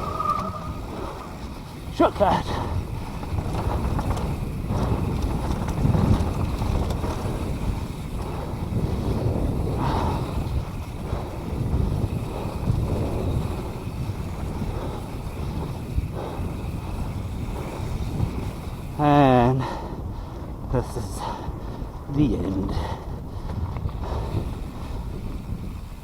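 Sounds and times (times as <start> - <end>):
bike rumbling and rattling on dirt: 0.0 - 26.0
wind buffeting microphone: 0.0 - 26.0.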